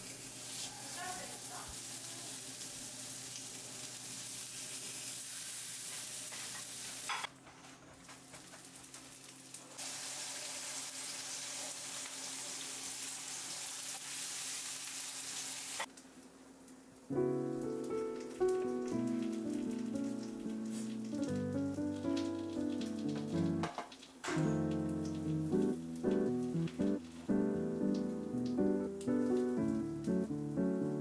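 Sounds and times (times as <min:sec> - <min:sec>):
food sizzling in frying pan: 0:00.0 - 0:07.3, 0:08.2 - 0:31.0.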